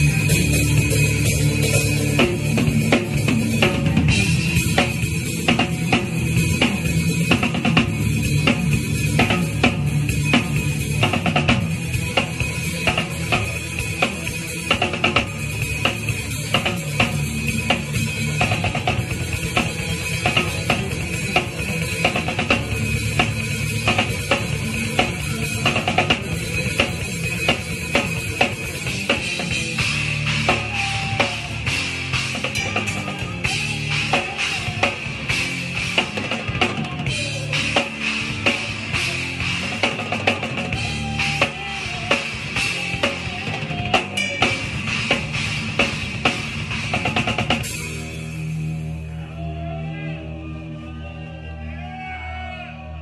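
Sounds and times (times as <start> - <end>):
rock drum beat: 0.0 - 48.9
band music: 0.0 - 53.0.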